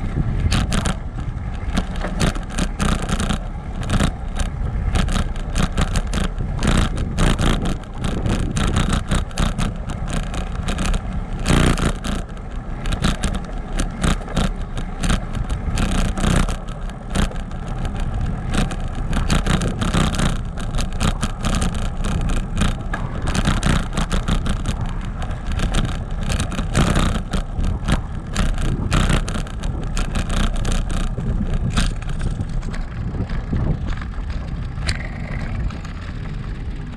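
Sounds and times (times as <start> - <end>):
bicycle tyres rattling on bricks: 0.0 - 36.9
low rumble: 0.0 - 36.9.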